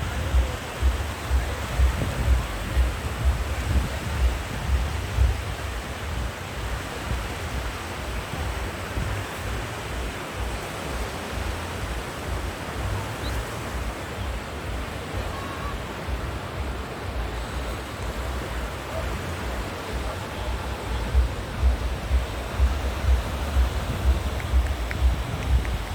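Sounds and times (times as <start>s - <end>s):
surf washing onto beach: 0.0s - 25.9s
wind buffeting microphone: 0.0s - 25.9s.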